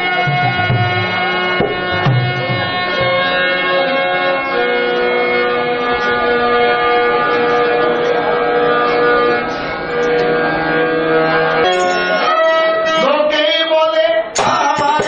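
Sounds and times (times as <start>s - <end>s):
violin slow bowed melody: 0.0s - 13.6s
steady held tones: 0.0s - 15.0s.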